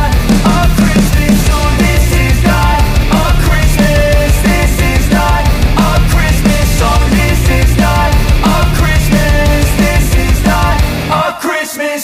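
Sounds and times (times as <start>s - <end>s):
steady drum beat: 0.0s - 11.2s
loud rock music: 0.0s - 11.9s.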